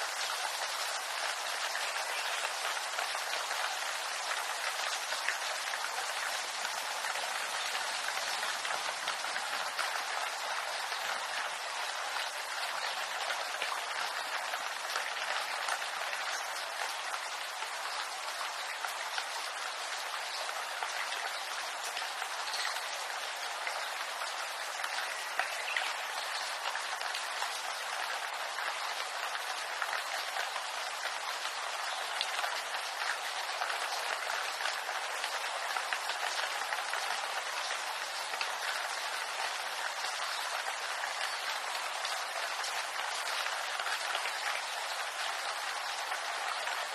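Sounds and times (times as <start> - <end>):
rain on leaves: 0.0 - 46.9.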